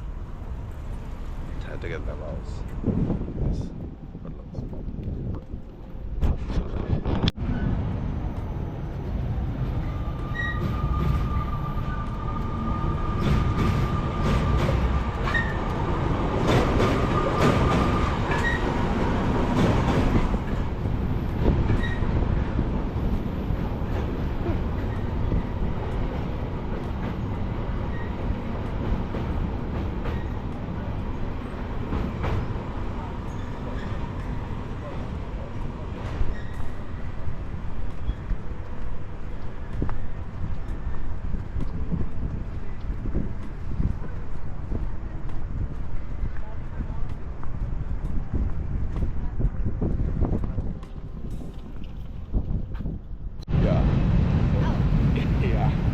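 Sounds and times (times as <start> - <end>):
train rumbling over bridge: 0.0 - 55.9.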